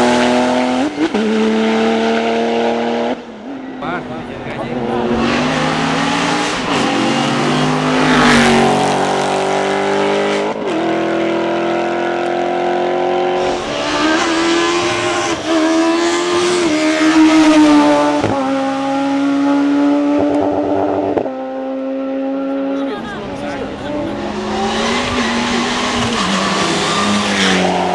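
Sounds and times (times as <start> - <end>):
racing car engine revving: 0.0 - 27.9.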